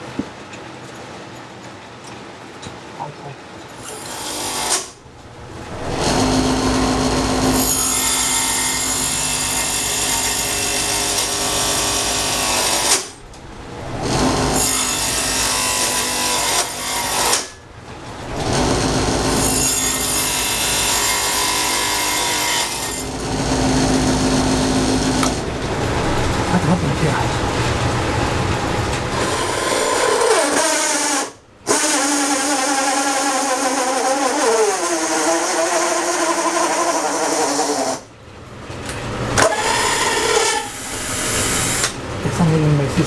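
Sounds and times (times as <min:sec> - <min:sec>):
power tool cutting wood: 0:03.7 - 0:38.1, 0:39.3 - 0:42.8.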